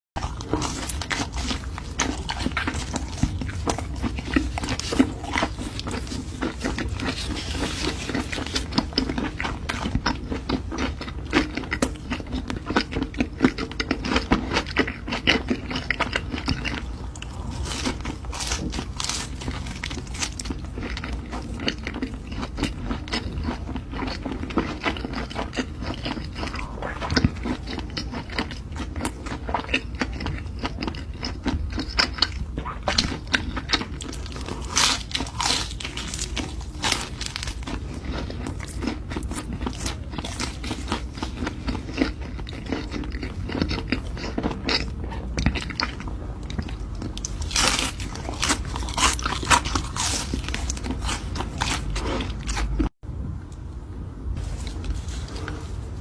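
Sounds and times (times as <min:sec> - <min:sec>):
crunchy bites and chewing: 0:00.2 - 0:53.0.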